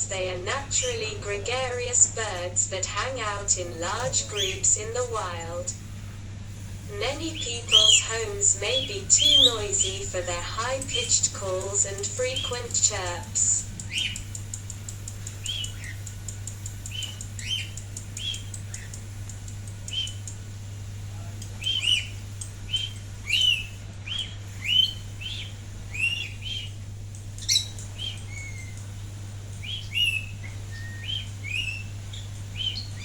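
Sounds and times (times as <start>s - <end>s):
birds chirping: 0.0s - 5.8s, 6.9s - 33.0s
steady low hum: 0.0s - 33.0s.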